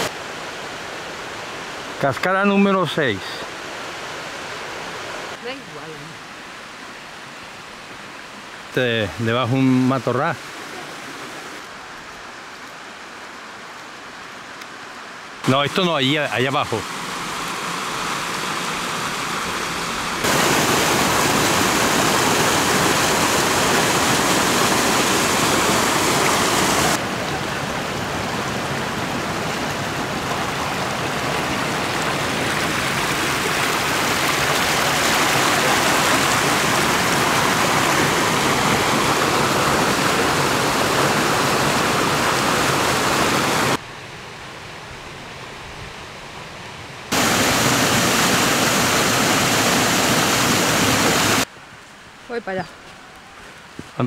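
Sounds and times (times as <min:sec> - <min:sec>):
waterfall rushing: 0:00.0 - 0:43.8, 0:47.1 - 0:51.5.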